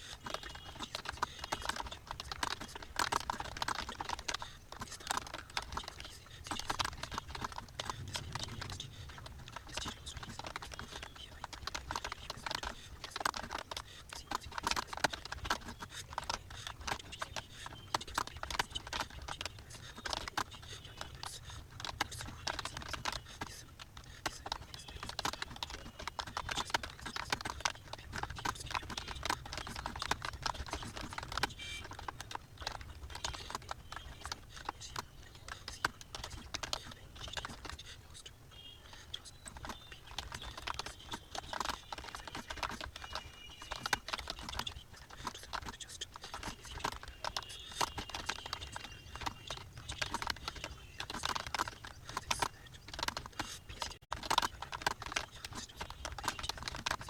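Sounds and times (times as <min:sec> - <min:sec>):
keyboard typing clicks: 0:00.0 - 0:57.0
low steady hum: 0:03.8 - 0:51.0.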